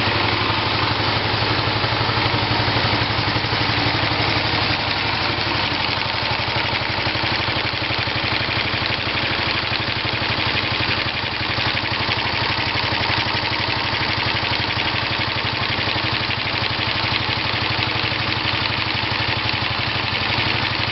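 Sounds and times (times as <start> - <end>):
small engine idling: 0.0 - 20.9.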